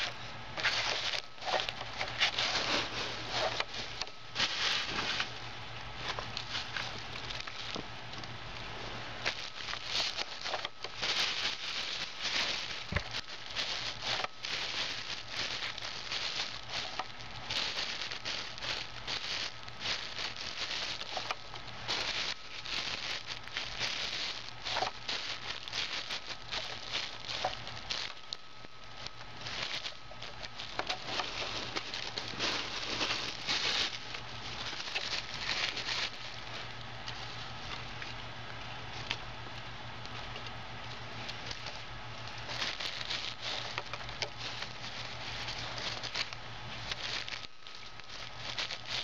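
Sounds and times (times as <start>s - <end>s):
paper and plastic crinkling: 0.0s - 49.0s.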